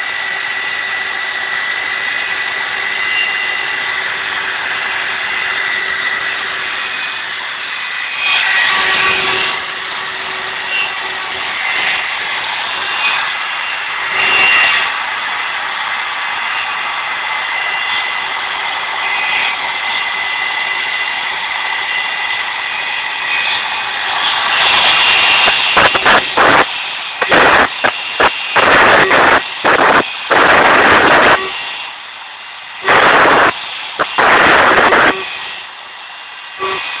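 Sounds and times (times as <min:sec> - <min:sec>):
router cutting noise: 0:00.0 - 0:32.1, 0:32.7 - 0:37.0
router spindle whine: 0:00.0 - 0:37.0.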